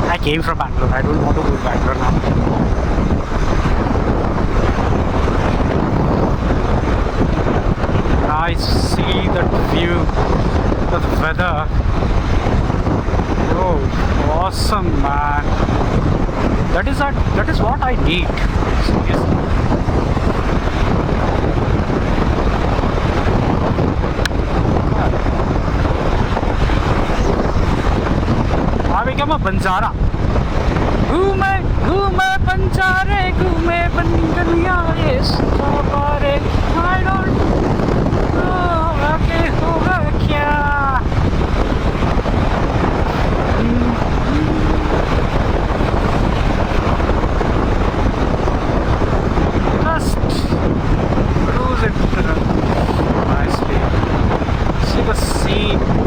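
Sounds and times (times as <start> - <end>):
motorcycle riding: 0.0 - 56.0
wind rushing on microphone: 0.0 - 56.0.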